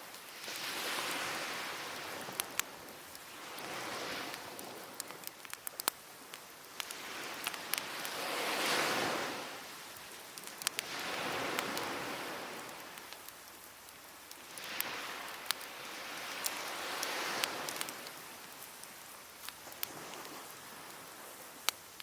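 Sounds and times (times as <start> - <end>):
sea waves washing ashore: 0.0 - 22.0
wood fire crackling and popping: 0.0 - 22.0.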